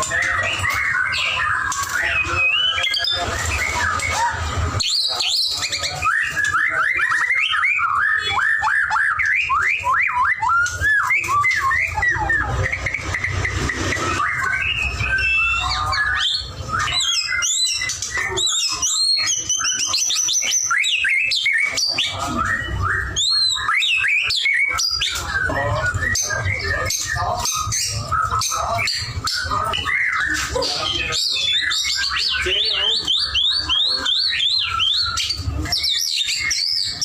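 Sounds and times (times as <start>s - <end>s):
bird singing whistled phrases: 0.0s - 37.0s.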